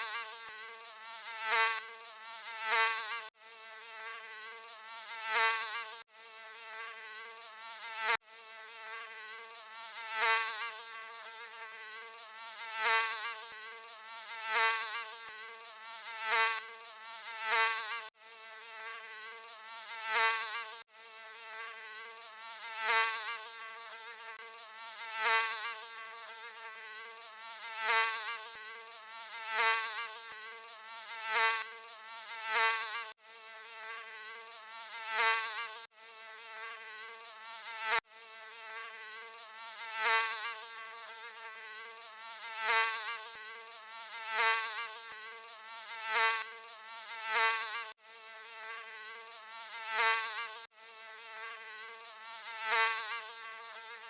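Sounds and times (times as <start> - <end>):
mosquito buzzing: 0.0 - 54.0.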